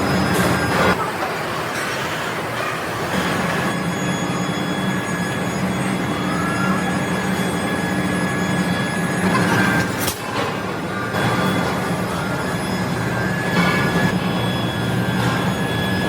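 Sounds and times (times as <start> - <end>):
factory machinery hum: 0.0 - 16.0
rising machine whine: 2.6 - 16.0.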